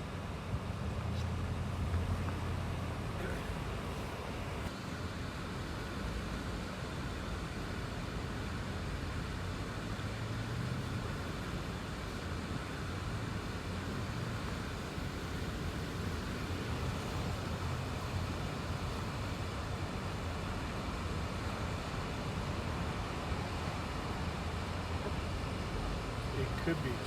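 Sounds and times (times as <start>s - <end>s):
car cabin low hum: 0.0s - 7.0s, 7.6s - 27.0s.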